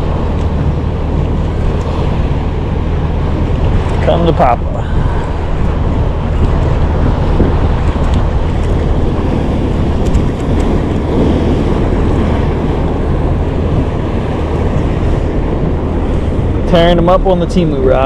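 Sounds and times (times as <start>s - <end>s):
low rumble: 0.0s - 18.0s
water washing against boat: 0.0s - 18.0s
wind buffeting microphone: 0.0s - 18.0s.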